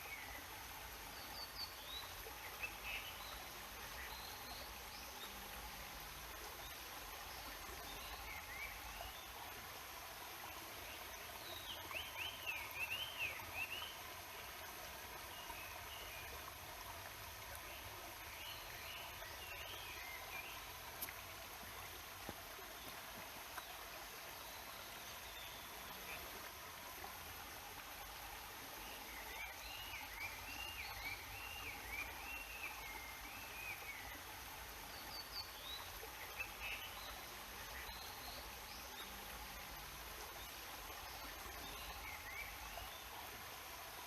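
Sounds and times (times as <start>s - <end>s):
mountain stream flowing: 0.0s - 44.0s.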